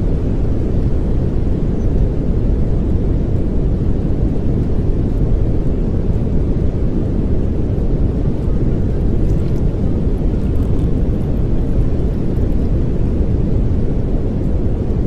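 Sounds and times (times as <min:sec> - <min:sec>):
steady pink noise hiss: 0:00.0 - 0:15.0.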